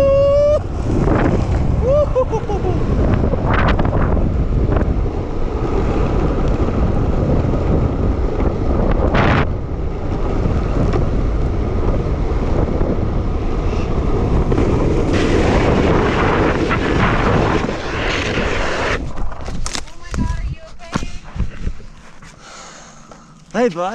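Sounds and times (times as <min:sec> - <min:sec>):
wind buffeting microphone: 0:00.0 - 0:22.4
longboard wheels rolling on asphalt: 0:00.0 - 0:23.9.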